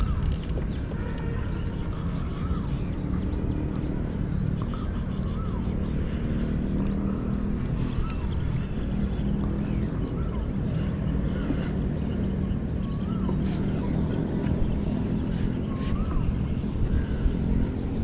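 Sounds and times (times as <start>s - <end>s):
bird chirping: 0.0s - 18.0s
low motor drone: 0.0s - 18.0s.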